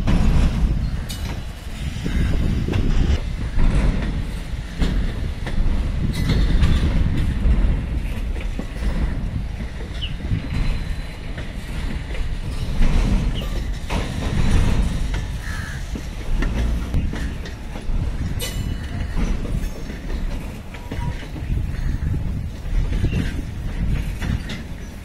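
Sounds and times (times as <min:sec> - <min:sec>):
clacks over rail joints: 0:00.0 - 0:25.0
train wheels rumbling on rails: 0:00.0 - 0:25.0.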